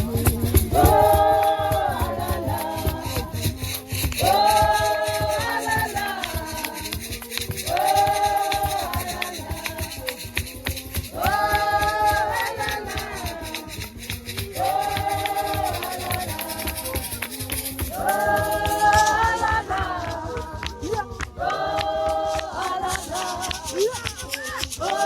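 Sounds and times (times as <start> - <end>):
choir singing held chords: 0.0 - 25.0
shaker ticks: 0.0 - 25.0.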